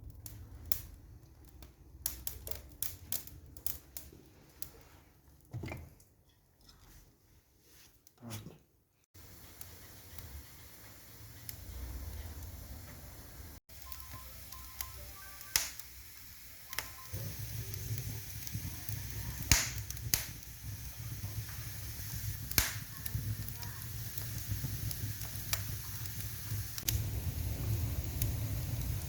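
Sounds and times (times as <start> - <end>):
fire popping: 0.0 - 5.0, 9.2 - 29.0
wood fire crackling: 0.0 - 5.5, 9.2 - 29.0.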